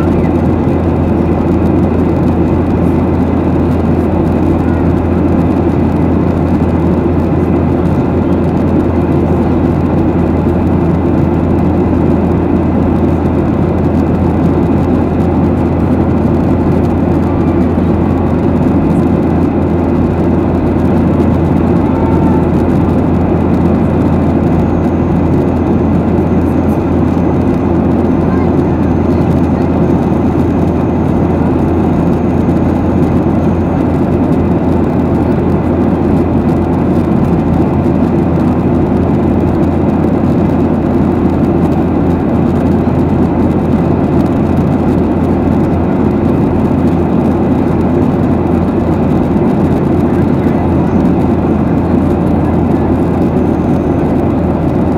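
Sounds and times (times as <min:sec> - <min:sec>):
jet engine hum: 0:00.0 - 0:54.9.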